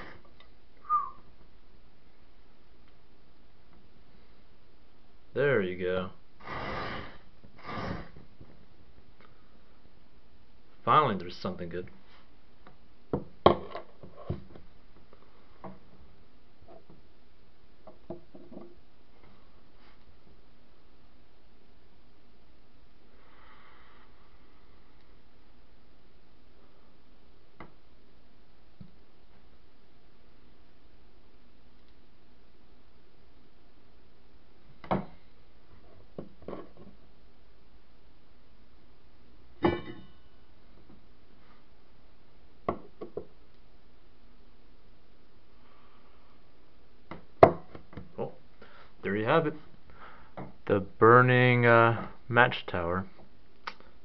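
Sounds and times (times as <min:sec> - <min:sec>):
steady low hiss: 0:00.0 - 0:54.0.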